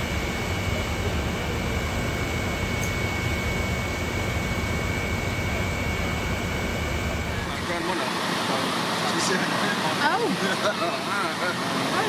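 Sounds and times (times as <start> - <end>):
heavy engine drone: 0.0 - 12.0
high-pitched whine: 0.0 - 12.0.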